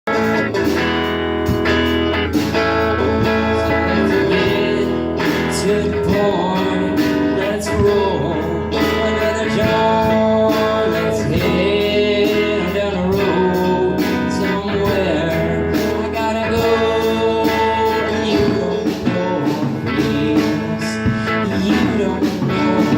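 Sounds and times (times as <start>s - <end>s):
bluesy electric guitar band: 0.0s - 22.9s.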